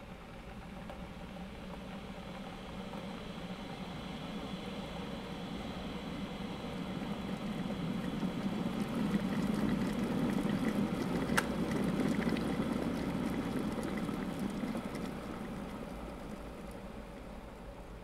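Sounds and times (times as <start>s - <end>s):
electric kettle boiling: 0.0s - 18.0s.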